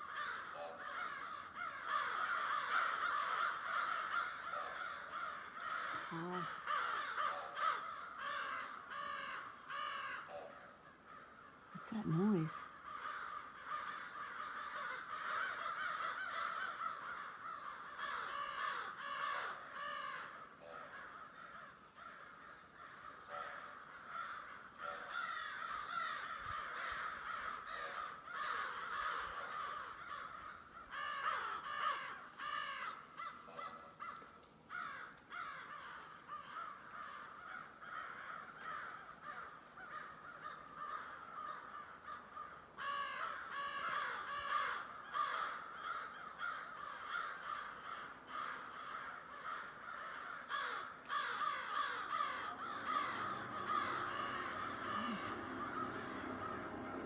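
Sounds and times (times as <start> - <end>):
crows cawing: 0.0 - 57.0.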